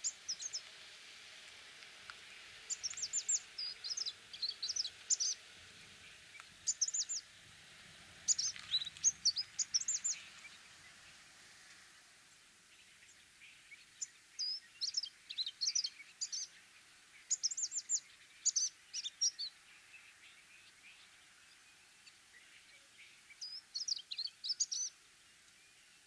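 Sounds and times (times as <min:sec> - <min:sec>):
faint background hiss: 0:00.0 - 0:26.0.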